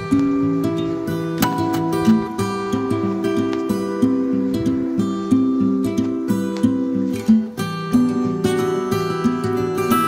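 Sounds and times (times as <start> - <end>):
plucked melody over steady pulse: 0.0 - 10.0.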